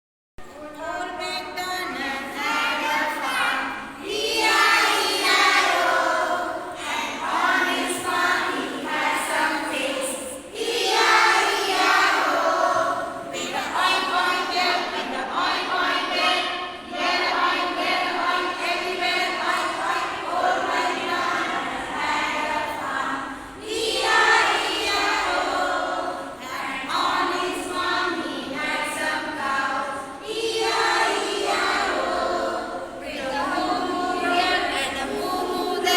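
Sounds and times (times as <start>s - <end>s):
choir of high voices singing: 0.8s - 35.9s.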